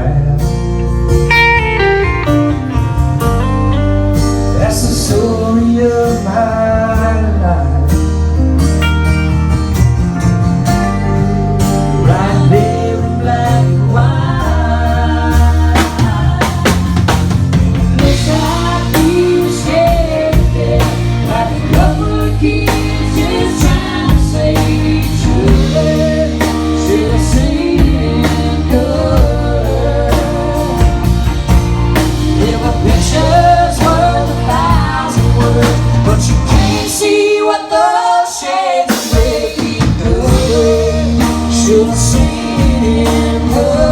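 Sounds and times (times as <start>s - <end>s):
bass: 0.0s - 43.9s
drums: 0.0s - 43.9s
guitar: 0.0s - 43.9s
person singing: 3.7s - 8.0s, 11.9s - 17.1s, 18.0s - 43.9s.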